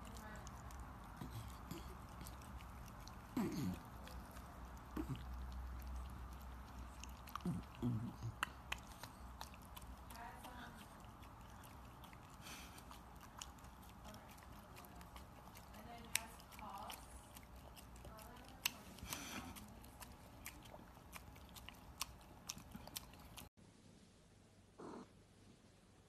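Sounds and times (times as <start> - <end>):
puppy chewing crunchy food: 0.0 - 23.5.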